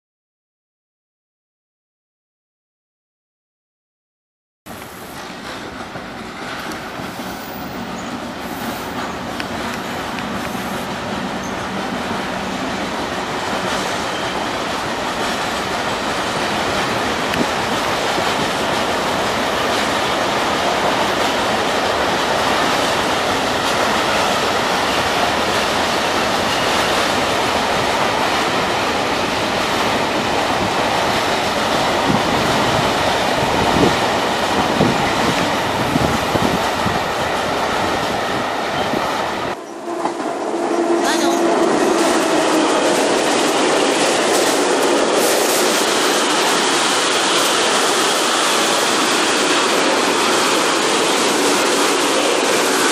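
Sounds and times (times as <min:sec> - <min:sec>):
wheels clacking over rail joints: 0:04.7 - 0:39.3, 0:41.8 - 0:52.9
train wheels rumbling on rail: 0:04.7 - 0:52.9.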